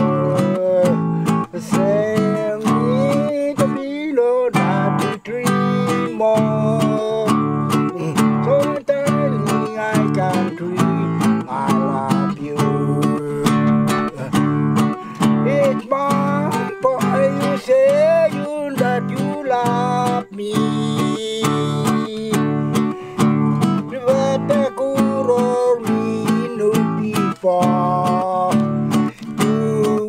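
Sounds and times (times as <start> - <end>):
acoustic guitar strumming: 0.0 - 30.0
person singing: 0.0 - 30.0.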